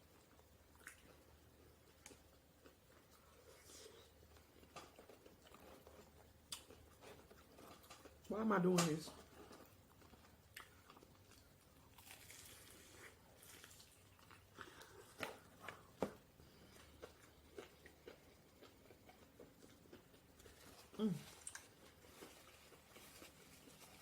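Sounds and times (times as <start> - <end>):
person chewing food: 0.1 - 8.3, 9.2 - 24.0.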